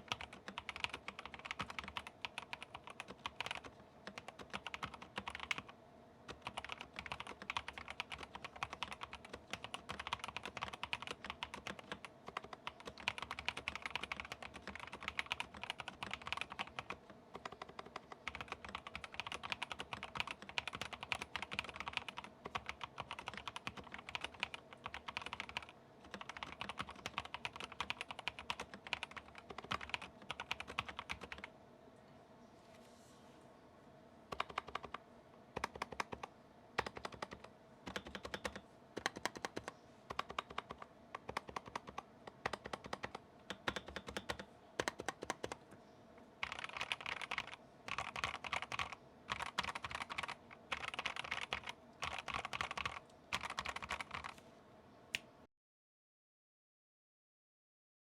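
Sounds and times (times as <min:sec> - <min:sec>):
typing on mechanical keyboard: 0:00.0 - 0:05.7, 0:06.3 - 0:31.5, 0:34.3 - 0:35.0, 0:35.6 - 0:45.7, 0:46.4 - 0:54.4.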